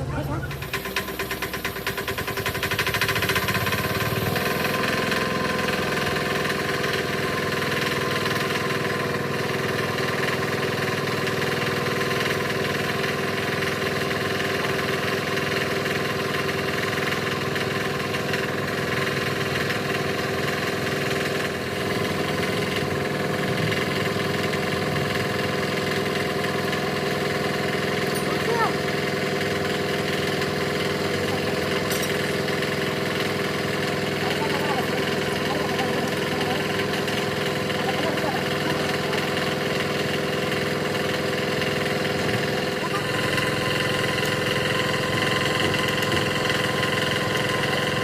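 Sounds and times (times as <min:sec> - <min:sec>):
engine running: 0:00.0 - 0:48.0.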